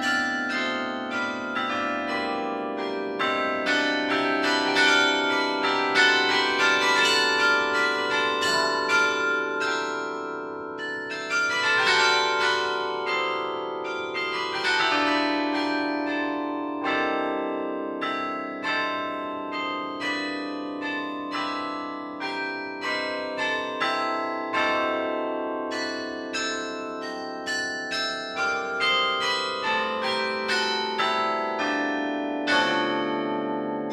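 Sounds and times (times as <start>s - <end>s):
carillon bells playing melody: 0.0s - 33.9s.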